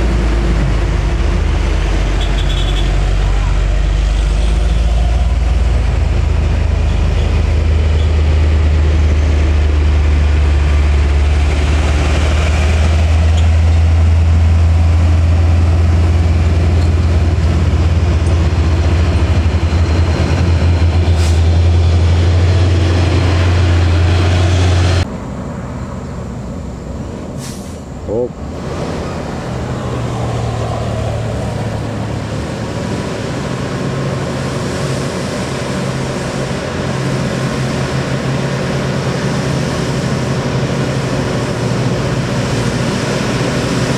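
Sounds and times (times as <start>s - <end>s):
heavy truck engine droning: 0.0s - 43.9s.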